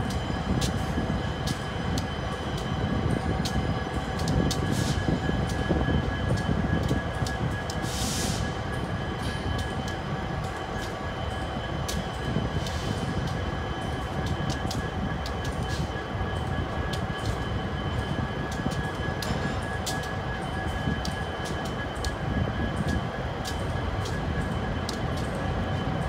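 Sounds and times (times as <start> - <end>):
freight train rumble: 0.0 - 26.0.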